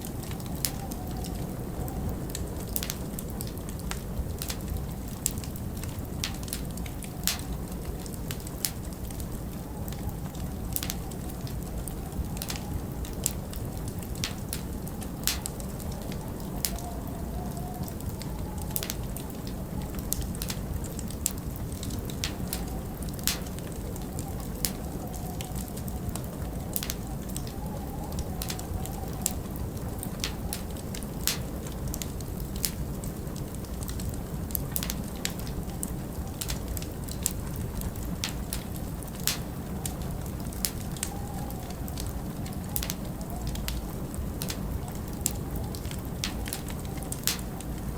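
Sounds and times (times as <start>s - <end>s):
burning logs crackling: 0.0s - 47.9s
storm wind rumble: 0.0s - 47.9s.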